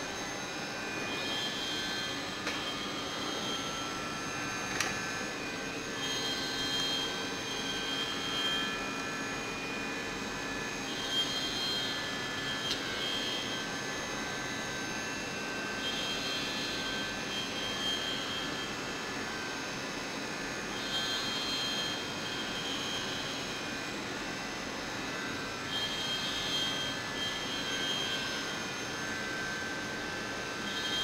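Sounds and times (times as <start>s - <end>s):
milling machine humming and hissing: 0.0s - 31.0s.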